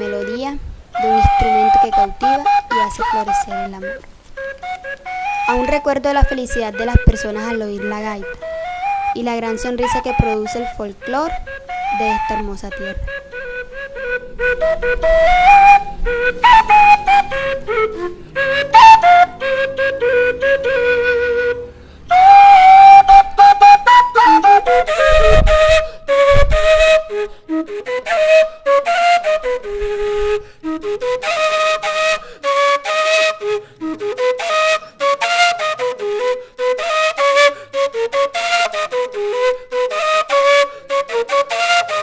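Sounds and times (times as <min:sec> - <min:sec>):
flute playing folk melody: 0:00.0 - 0:42.0.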